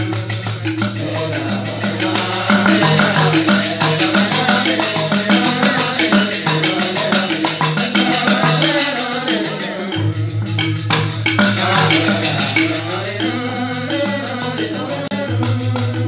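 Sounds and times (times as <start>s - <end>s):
ensemble chanting: 0.0s - 16.0s
hand percussion clatter: 0.0s - 16.0s.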